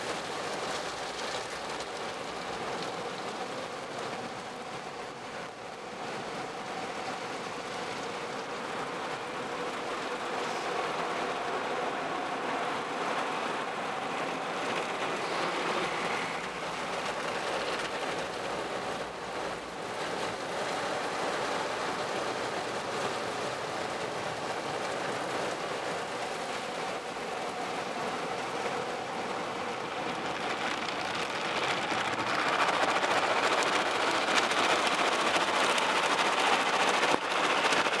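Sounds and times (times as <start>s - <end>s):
water jets drumming on car: 0.0s - 38.0s.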